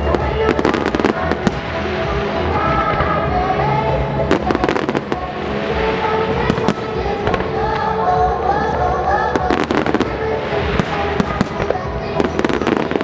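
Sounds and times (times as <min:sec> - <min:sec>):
fireworks bursting: 0:00.0 - 0:13.0
loud show music: 0:00.0 - 0:13.0.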